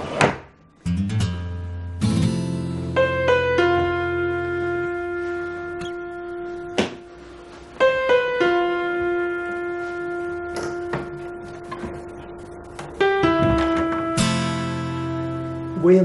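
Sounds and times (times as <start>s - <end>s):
slow piano music: 0.6s - 16.0s.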